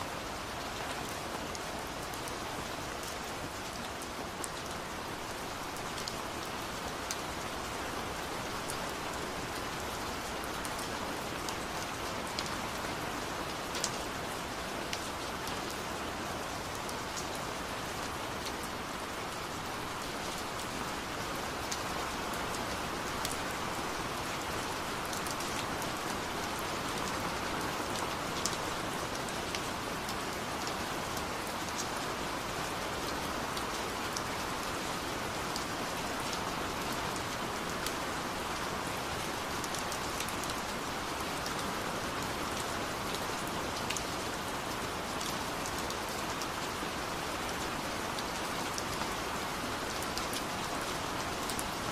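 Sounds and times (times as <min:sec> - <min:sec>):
steady rain patter: 0:00.0 - 0:51.9.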